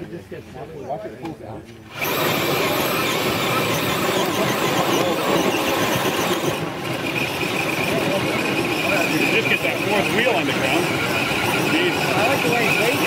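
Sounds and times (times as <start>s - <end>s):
toy truck motor whine: 1.9s - 13.0s.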